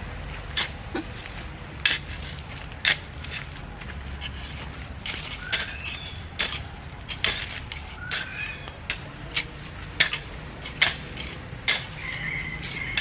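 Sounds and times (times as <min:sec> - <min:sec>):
metal tool scraping soil: 0:00.5 - 0:13.0.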